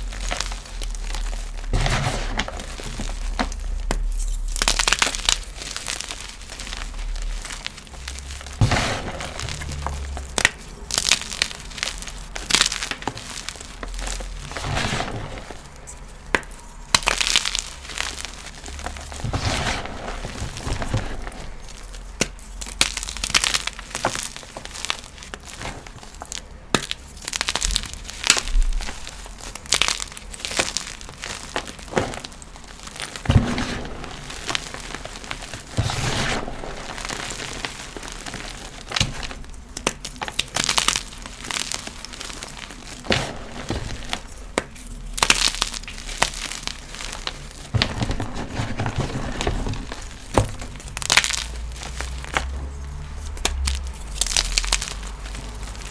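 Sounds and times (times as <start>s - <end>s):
chalk crunching by hand: 0.0s - 55.9s
chalk pieces cracking: 0.0s - 55.9s.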